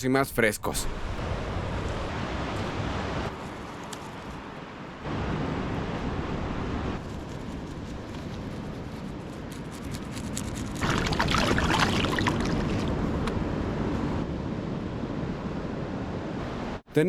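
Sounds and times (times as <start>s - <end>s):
ocean waves against rocks: 0.9s - 16.9s.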